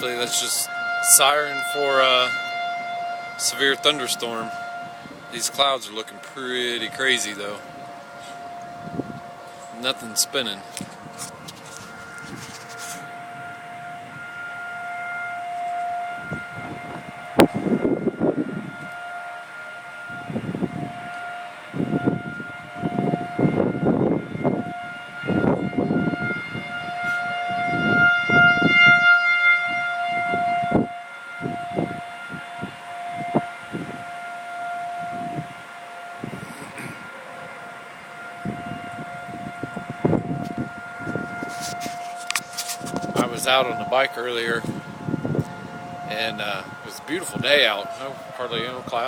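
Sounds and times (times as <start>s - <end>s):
bursts of low noise: 0.0s - 49.0s
warning siren steady tone: 0.0s - 49.0s.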